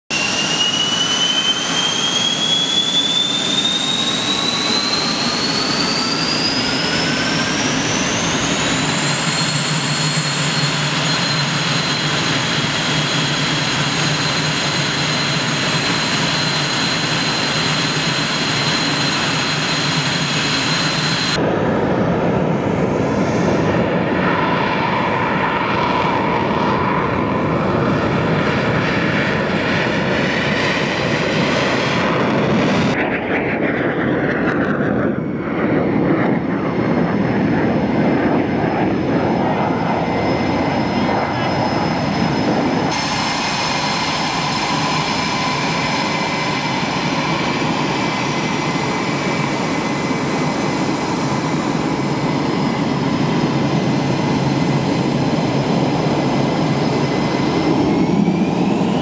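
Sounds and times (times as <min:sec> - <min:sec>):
deep jet noise: 0:00.1 - 0:59.0
jet engine starting whine: 0:00.1 - 0:59.0.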